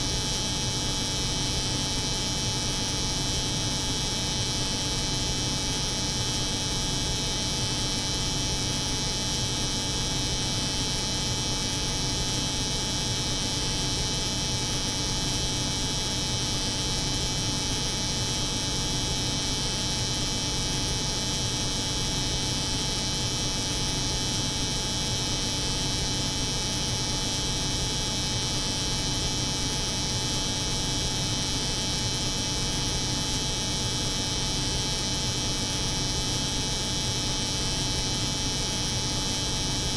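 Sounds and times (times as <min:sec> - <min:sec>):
refrigeration unit hum: 0:00.0 - 0:39.9.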